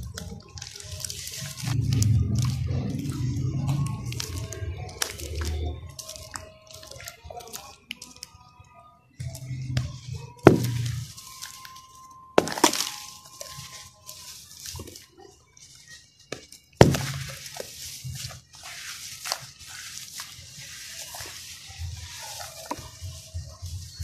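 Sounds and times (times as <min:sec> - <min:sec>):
wet sand cement crunching: 0:00.0 - 0:08.2, 0:09.7 - 0:24.0.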